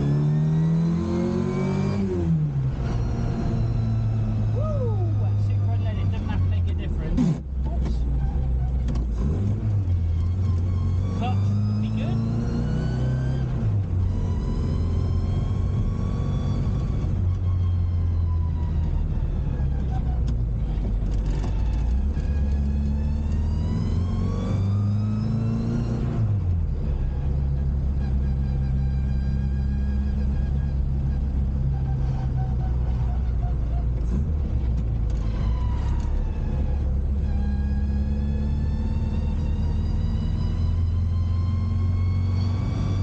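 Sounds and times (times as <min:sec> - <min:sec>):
car engine and exhaust revving: 0:00.0 - 0:43.0.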